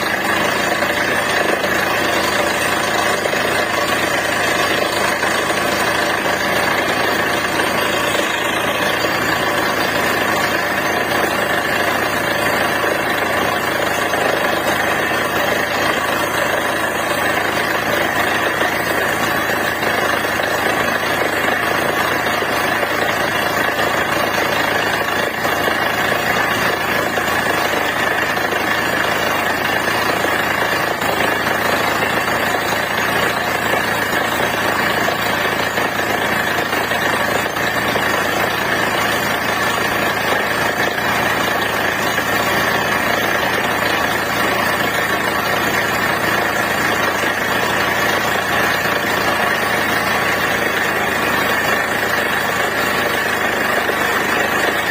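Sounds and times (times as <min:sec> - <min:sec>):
drilling machine running: 0:00.0 - 0:54.9.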